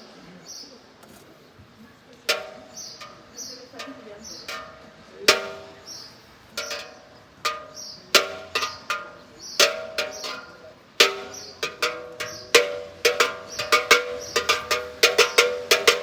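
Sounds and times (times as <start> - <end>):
small bells clanging: 2.3 - 16.0.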